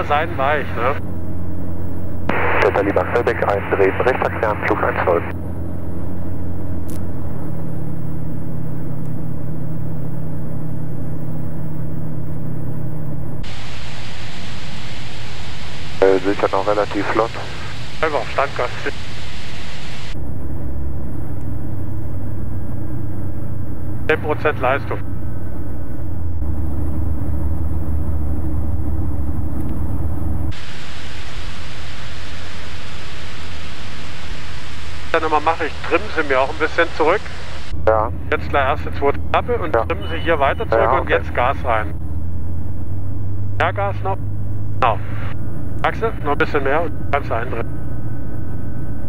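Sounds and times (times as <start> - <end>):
aircraft engine droning: 0.0 - 49.0.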